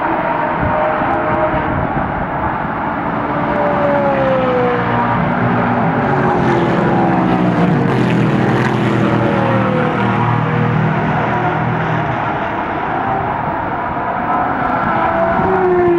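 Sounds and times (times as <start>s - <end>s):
race cars driving by at high revs: 0.0s - 15.9s.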